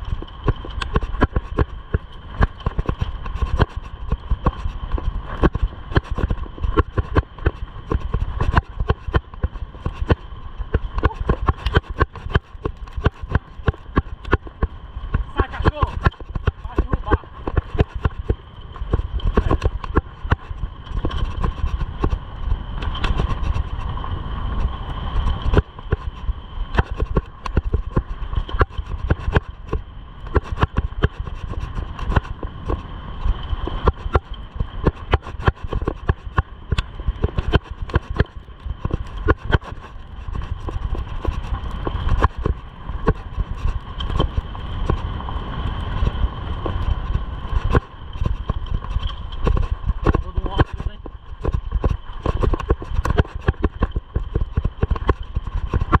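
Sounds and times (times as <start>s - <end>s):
bike rattling on rough trail: 0.0s - 56.0s
wind rumble on microphone: 0.0s - 56.0s.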